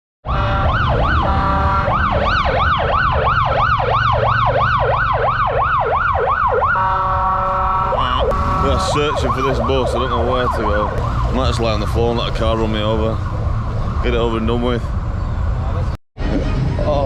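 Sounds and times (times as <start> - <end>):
street traffic rumble: 0.2 - 17.0
siren yelping: 0.3 - 14.1.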